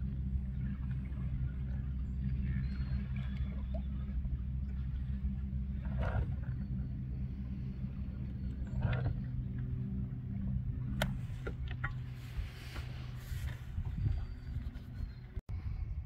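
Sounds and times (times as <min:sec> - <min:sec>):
boat motor idling: 0:00.0 - 0:15.4.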